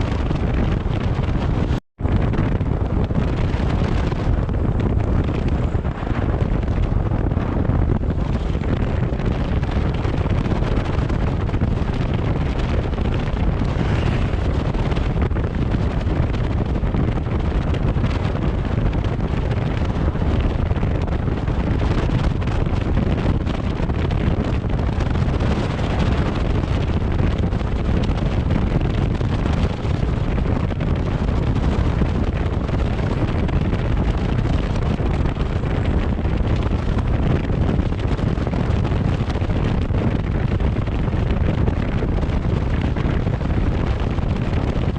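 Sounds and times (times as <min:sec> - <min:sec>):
vehicle rumble on road: 0:00.0 - 0:44.9
wind buffeting microphone: 0:00.0 - 0:44.9.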